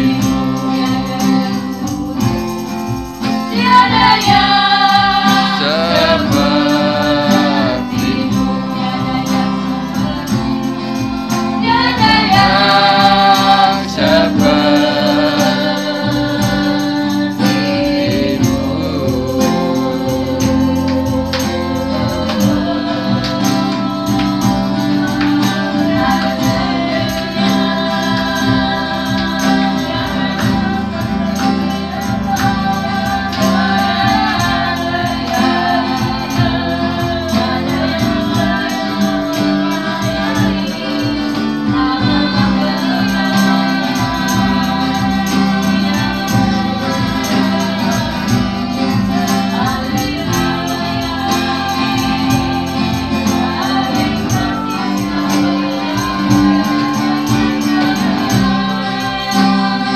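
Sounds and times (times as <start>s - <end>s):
acoustic guitar: 0.0s - 59.9s
voices singing along: 0.0s - 59.9s
woman singing into microphone: 0.0s - 59.9s.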